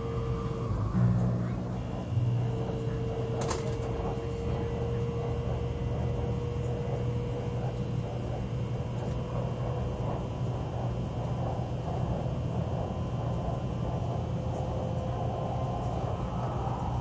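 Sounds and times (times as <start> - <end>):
train carriage running rumble: 0.0 - 17.0.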